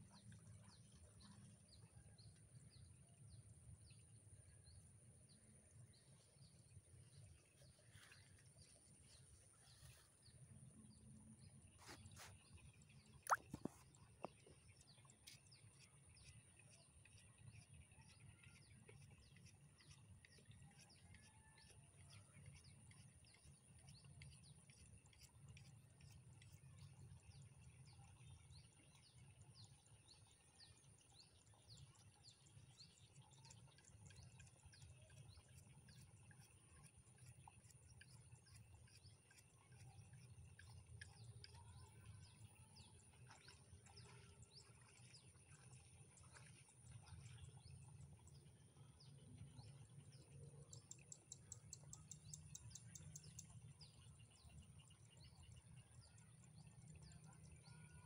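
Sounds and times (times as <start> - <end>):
small birds chirping: 5.4 - 21.5, 22.5 - 58.0.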